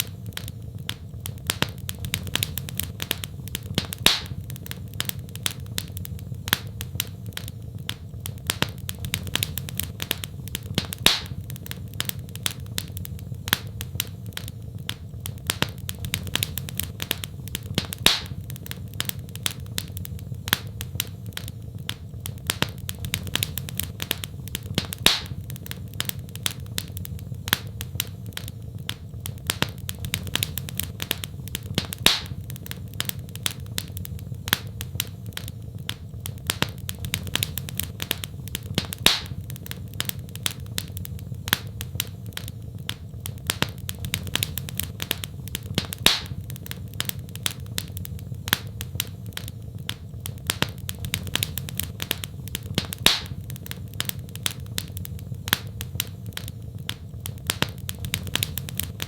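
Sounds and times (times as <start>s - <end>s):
fire popping: 0.0s - 59.0s
low rumble of flames: 0.0s - 59.0s
wood fire crackling: 0.0s - 59.0s.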